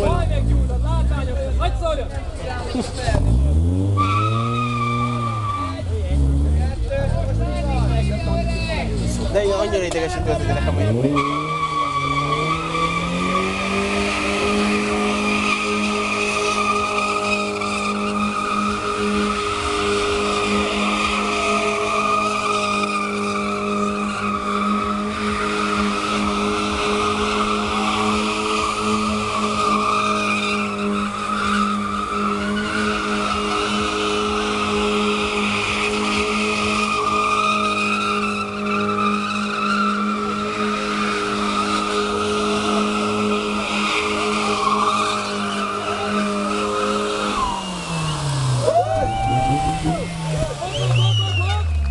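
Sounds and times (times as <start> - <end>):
car engine at high revs: 0.0 - 51.9
tyres screeching: 2.6 - 51.9.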